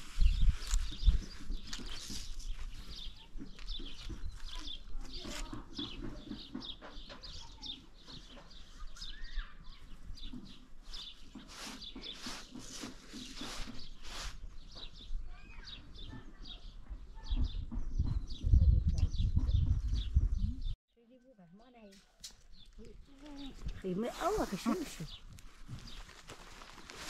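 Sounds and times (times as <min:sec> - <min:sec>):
birds chirping: 0:00.0 - 0:20.8, 0:22.2 - 0:27.0.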